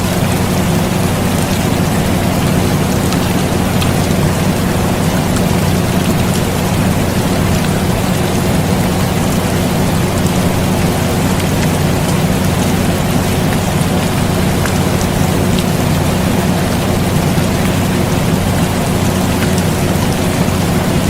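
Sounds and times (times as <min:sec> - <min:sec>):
air conditioner humming: 0:00.0 - 0:21.0
rain falling on a surface: 0:00.0 - 0:21.0.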